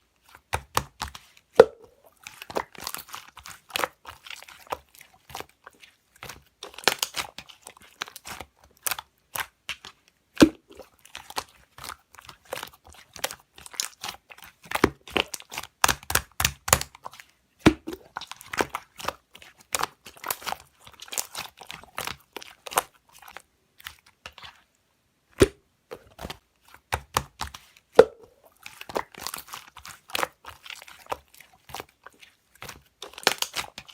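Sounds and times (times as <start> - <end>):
slime squished by hand: 0.2 - 24.7, 25.3 - 33.9.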